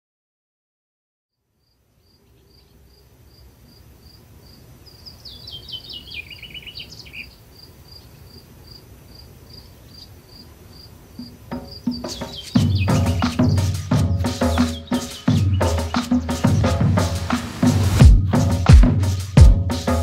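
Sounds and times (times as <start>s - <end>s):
songbird singing: 1.3s - 18.0s.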